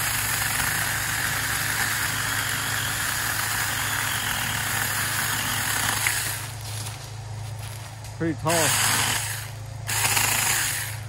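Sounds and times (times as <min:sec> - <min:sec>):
electric chainsaw cutting wood: 0:00.0 - 0:06.6, 0:08.5 - 0:11.0.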